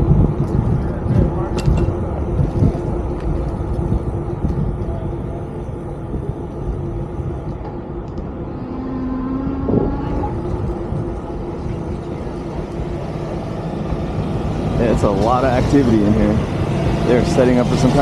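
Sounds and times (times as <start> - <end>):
electric bike motor hum: 0.0 - 18.0
road rumble: 0.0 - 18.0
wind noise: 0.0 - 18.0.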